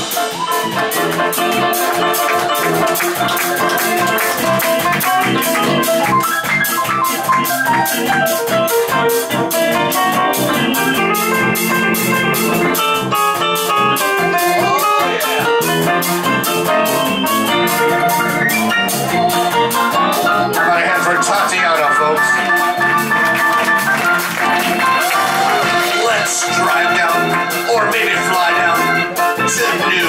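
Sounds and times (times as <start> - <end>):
electric guitar: 0.0 - 27.7
clarinet: 0.0 - 30.0
drum kit cymbal beat: 0.0 - 30.0
piano: 0.0 - 30.0.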